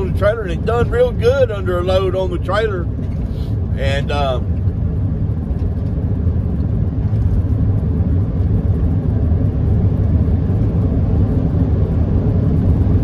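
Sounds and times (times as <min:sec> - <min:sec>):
vehicle road and engine rumble: 0:00.0 - 0:13.0.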